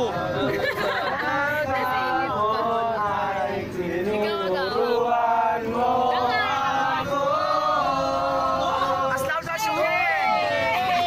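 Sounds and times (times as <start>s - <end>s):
group of people singing: 0.0s - 11.0s.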